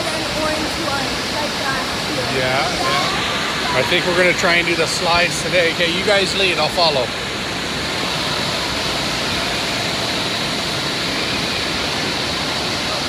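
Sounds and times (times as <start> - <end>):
water rushing and splashing: 0.0 - 13.0.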